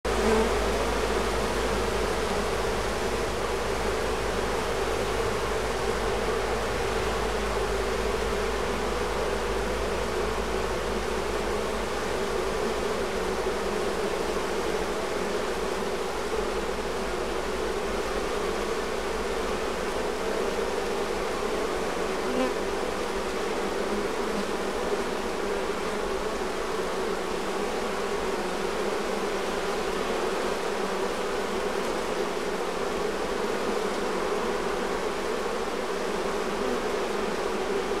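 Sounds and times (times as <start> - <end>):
honeybees humming: 0.1 - 38.0.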